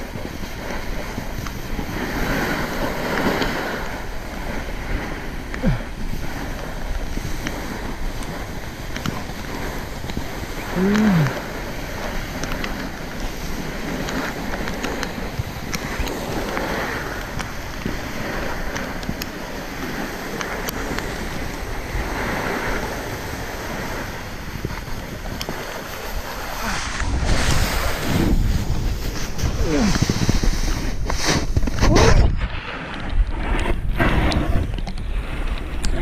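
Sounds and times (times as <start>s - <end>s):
snowboard hissing on snow: 0.0s - 35.5s
wind buffeting microphone: 0.0s - 36.0s.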